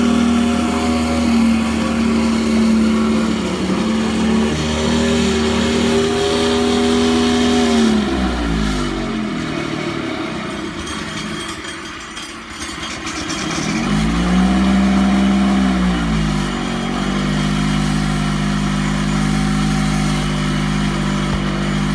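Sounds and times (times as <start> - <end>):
small gasoline engine revving: 0.0 - 10.6, 13.1 - 21.9.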